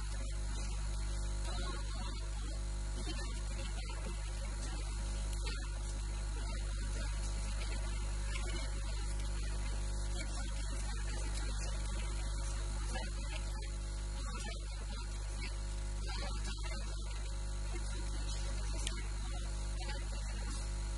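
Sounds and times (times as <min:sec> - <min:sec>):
electrical mains hum: 0:00.0 - 0:20.9.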